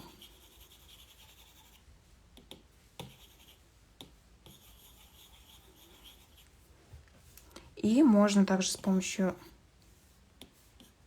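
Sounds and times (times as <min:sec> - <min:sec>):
stylus scratching on glass screen: 0:00.0 - 0:06.7, 0:07.8 - 0:11.0.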